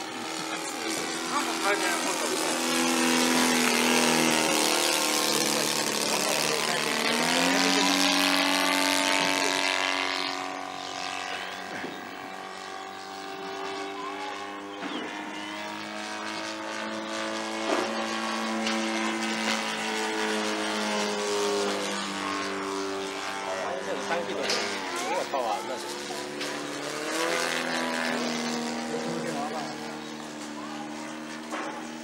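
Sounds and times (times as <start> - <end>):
model plane engine in flight: 0.0 - 32.0.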